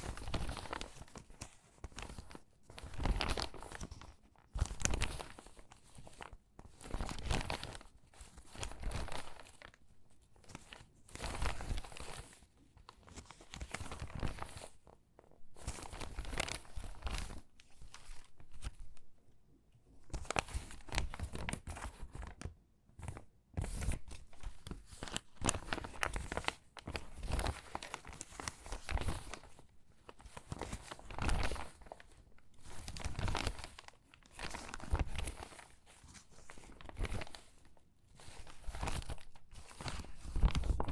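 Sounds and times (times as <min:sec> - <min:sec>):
stiff paper crackling and rustling: 0:00.0 - 0:19.1, 0:20.1 - 0:40.9.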